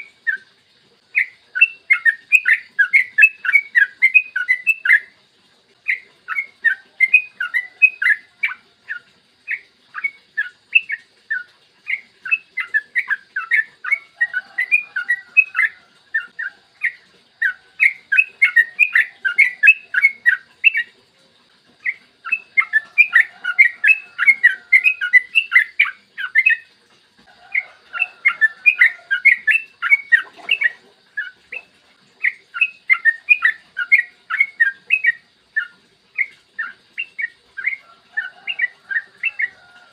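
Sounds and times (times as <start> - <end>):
bird singing chattering whistles: 1.1 - 5.1, 5.8 - 21.0, 21.8 - 26.6, 27.5 - 39.6.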